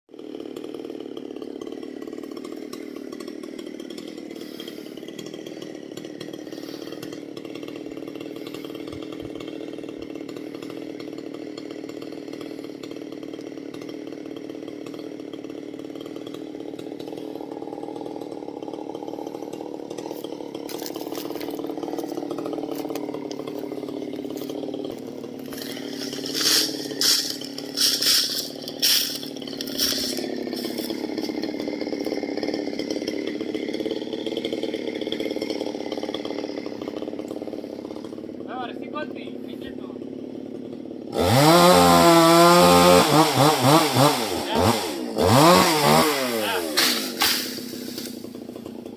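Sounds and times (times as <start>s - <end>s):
chainsaw cutting: 0.1s - 48.9s.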